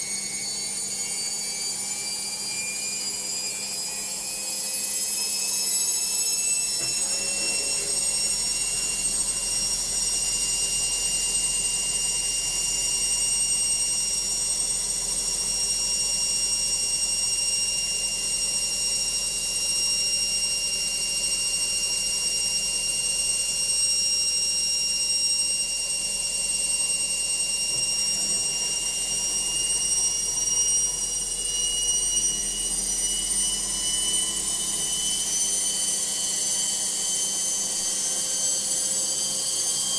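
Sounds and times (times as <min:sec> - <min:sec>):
high-pitched motor whine: 0:00.0 - 0:39.9.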